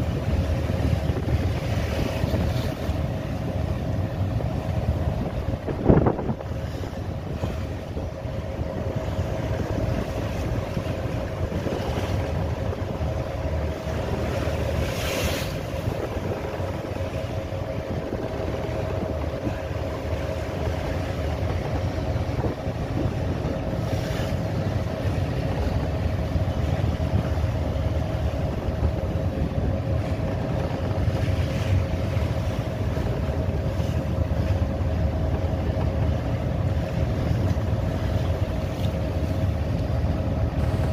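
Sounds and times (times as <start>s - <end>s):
motorboat engine droning: 0.0s - 40.9s
waves washing: 0.0s - 40.9s
wind on microphone: 0.0s - 40.9s.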